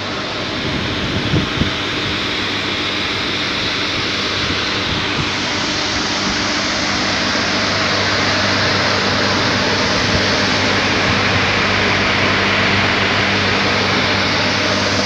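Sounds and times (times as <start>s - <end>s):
boiler burner rushing noise: 0.0s - 15.0s
steady low hum: 0.0s - 15.0s.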